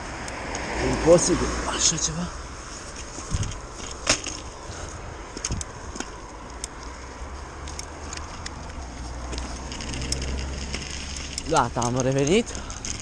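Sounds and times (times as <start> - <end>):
cars passing on road: 0.0 - 13.0.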